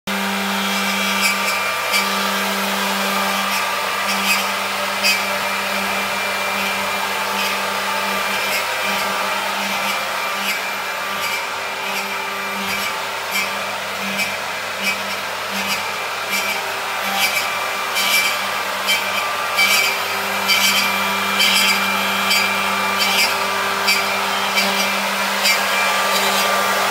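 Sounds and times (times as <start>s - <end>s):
router machine whirring: 0.1s - 26.9s.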